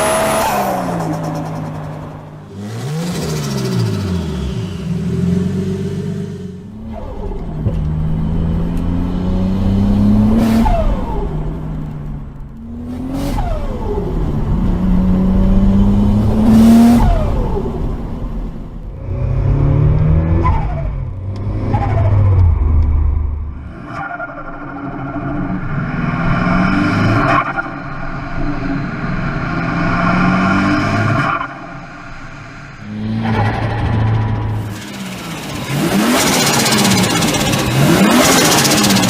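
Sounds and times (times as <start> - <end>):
car engine accelerating: 0.0 - 27.7, 28.3 - 39.0.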